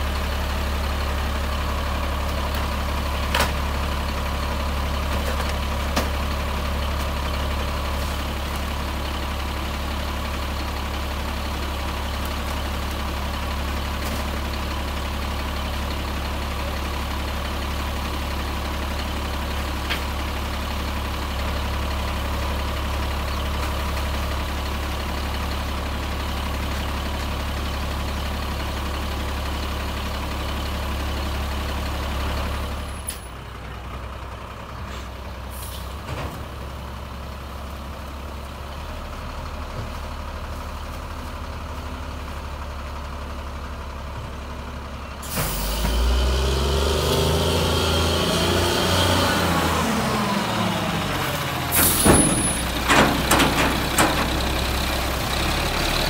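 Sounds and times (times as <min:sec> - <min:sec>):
distant truck engine: 0:00.0 - 0:56.0
garbage truck diesel engine humming: 0:00.0 - 0:56.0.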